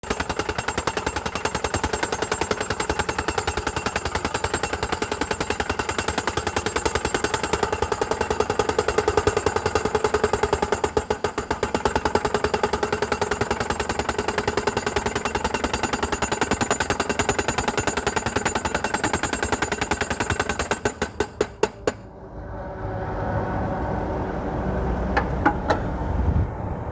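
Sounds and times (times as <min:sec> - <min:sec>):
hydraulic hammer pounding steel post: 0:00.0 - 0:22.1.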